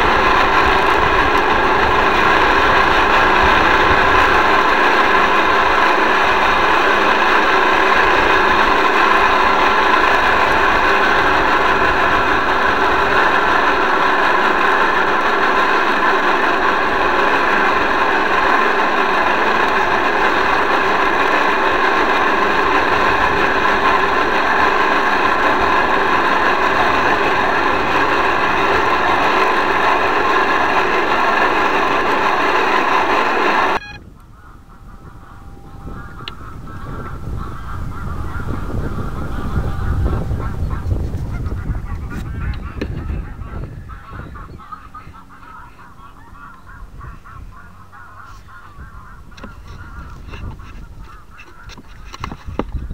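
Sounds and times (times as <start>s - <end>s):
small boat motor whirring: 0.0s - 52.9s.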